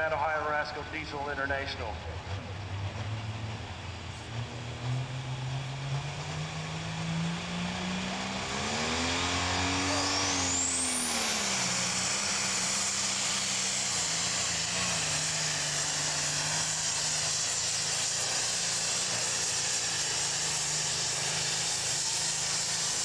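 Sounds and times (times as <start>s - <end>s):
diesel tractor engine revving: 0.0s - 23.0s
turbocharger whine: 0.0s - 23.0s.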